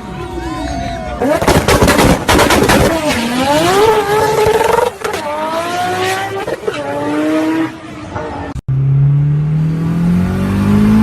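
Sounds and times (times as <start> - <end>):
car engine accelerating: 1.2 - 8.0, 8.7 - 11.0.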